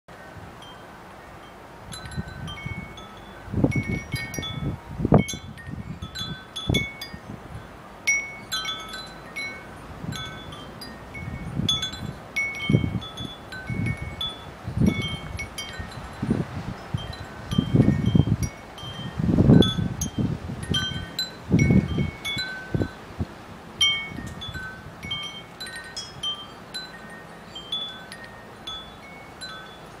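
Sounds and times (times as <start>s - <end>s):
tubular wind chime ringing: 0.2s - 23.1s, 23.8s - 30.0s
wind rumbling on microphone: 0.2s - 30.0s.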